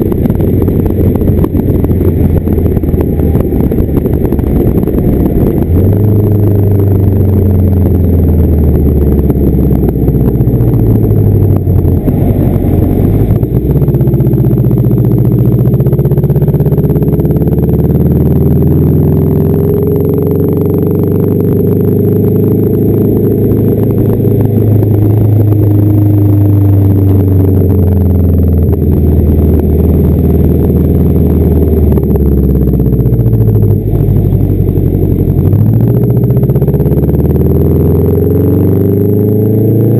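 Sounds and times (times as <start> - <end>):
car engine with deep loud exhaust: 0.0 - 39.9.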